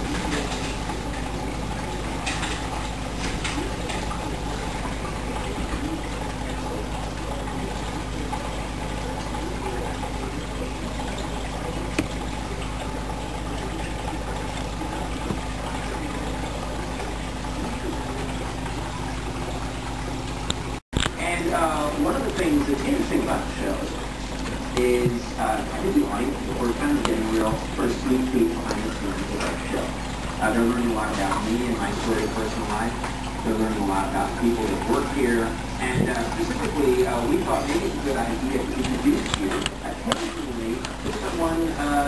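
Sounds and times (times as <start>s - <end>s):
aquarium pump humming and rushing: 0.0s - 42.0s.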